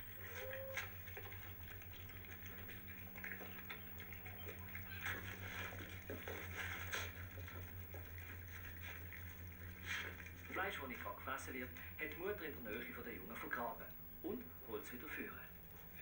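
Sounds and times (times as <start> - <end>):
animals chewing and rustling: 0.0 - 16.0
low hum: 0.0 - 16.0.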